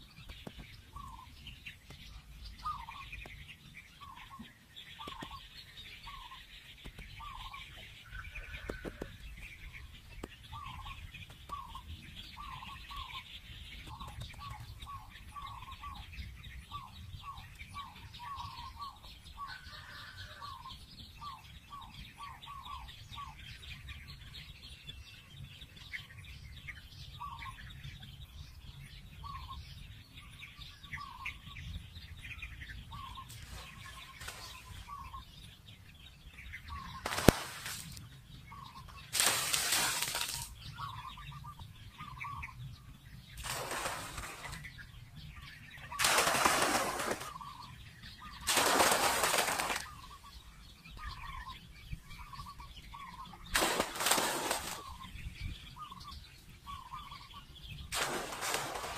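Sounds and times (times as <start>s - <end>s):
birds chirping and calling: 0.0s - 58.9s.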